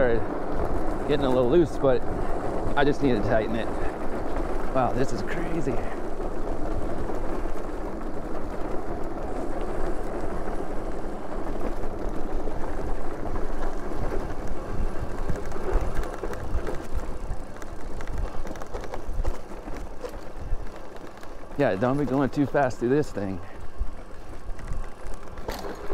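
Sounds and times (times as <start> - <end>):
bike rattling over bumps: 0.0 - 25.9
tyres rumbling on dirt: 0.0 - 25.9.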